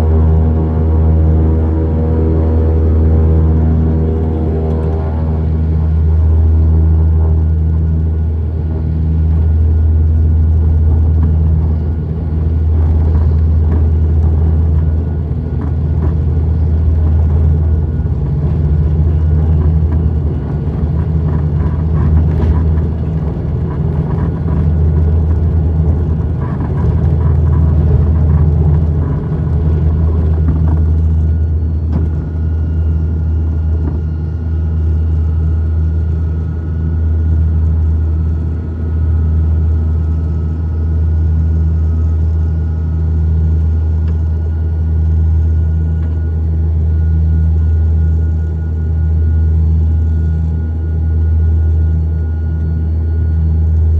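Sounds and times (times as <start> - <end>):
airplane engine drone: 0.0 - 53.9
steady higher whine: 0.0 - 53.9.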